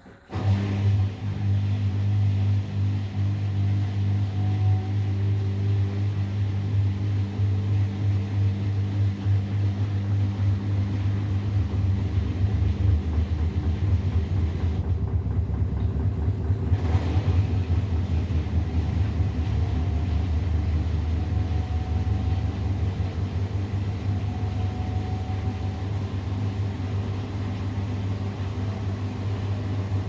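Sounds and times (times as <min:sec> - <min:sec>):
washing machine spinning: 0:00.0 - 0:30.0.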